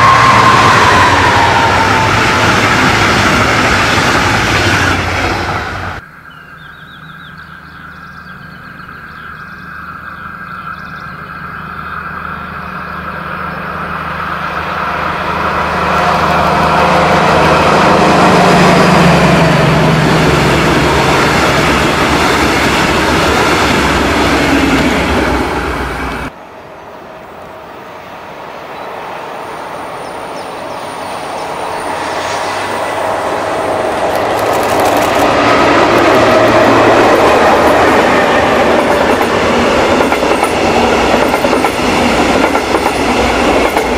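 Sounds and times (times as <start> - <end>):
train wheel noise: 0.0 - 6.0, 9.6 - 43.9
diesel locomotive passing: 0.0 - 43.9.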